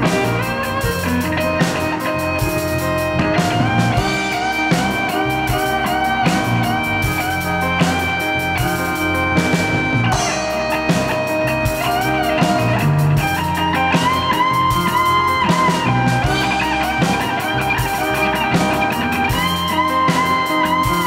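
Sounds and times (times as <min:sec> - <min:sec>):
drums: 0:00.0 - 0:21.0
electric bass: 0:00.0 - 0:21.0
electric guitar lead: 0:00.0 - 0:21.0
piano: 0:00.0 - 0:21.0.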